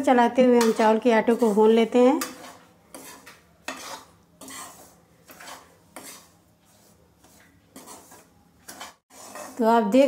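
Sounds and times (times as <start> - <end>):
spoon scraping flour in pan: 0.0 - 10.0.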